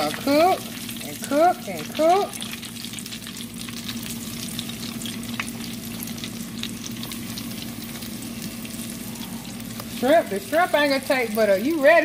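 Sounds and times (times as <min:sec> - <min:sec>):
shrimp deep-frying in oil: 0:00.0 - 0:12.0.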